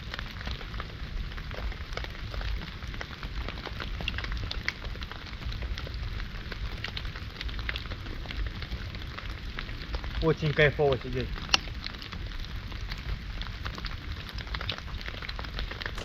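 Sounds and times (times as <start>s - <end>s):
campfire crackling and popping: 0.0s - 16.0s
rain on a tarp: 0.0s - 16.0s.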